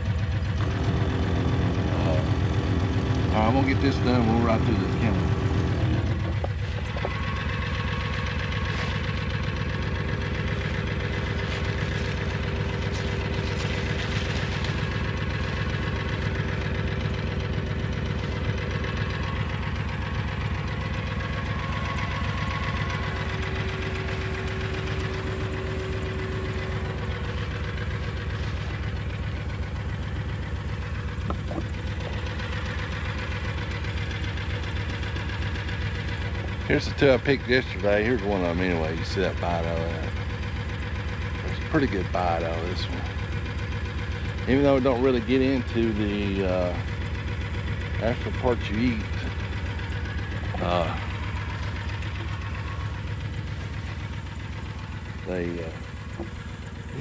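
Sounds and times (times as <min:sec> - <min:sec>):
farm vehicle engine running: 0:00.0 - 0:57.0.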